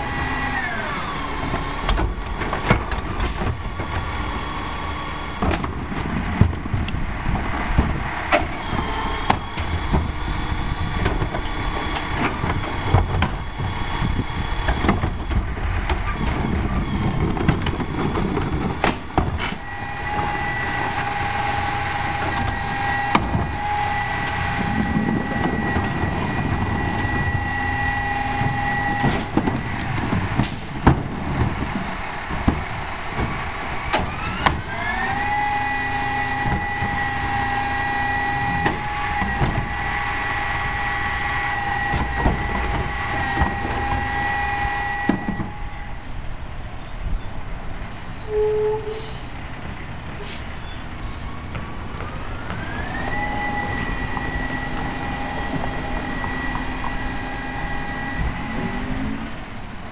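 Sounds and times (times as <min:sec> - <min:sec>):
hydraulic packer whining: 0:00.0 - 0:46.3, 0:47.1 - 0:59.9
truck engine speeding up: 0:00.0 - 0:46.5, 0:49.3 - 0:59.9.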